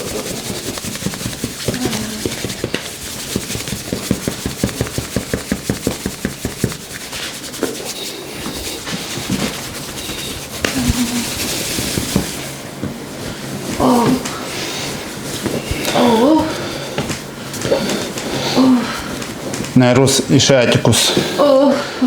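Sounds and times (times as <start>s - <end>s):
hands rubbing skin: 0.0s - 19.8s
quick percussive massage strokes: 0.0s - 19.8s.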